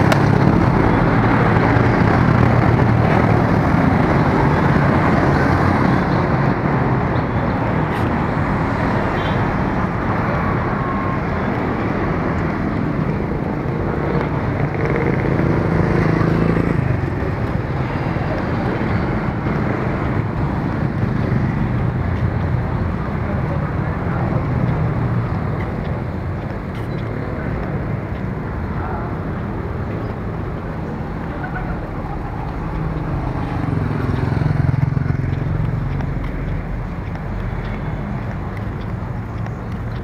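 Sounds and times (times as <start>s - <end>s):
motorcycle engines running: 0.0s - 40.0s
road traffic: 0.0s - 40.0s.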